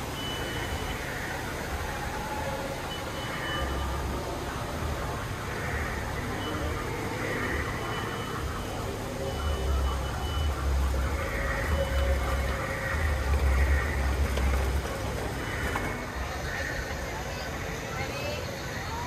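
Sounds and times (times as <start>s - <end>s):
people chattering faintly: 0.0s - 19.0s.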